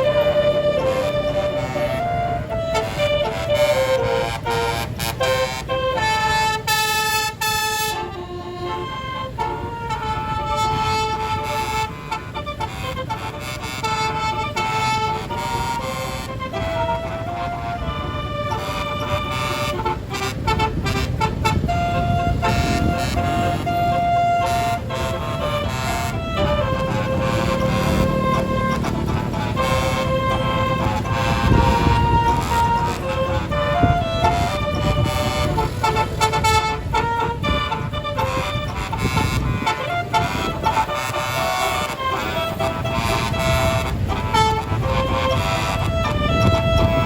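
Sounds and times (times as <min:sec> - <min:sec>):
multi-note bus air horn melody: 0:00.0 - 0:47.0.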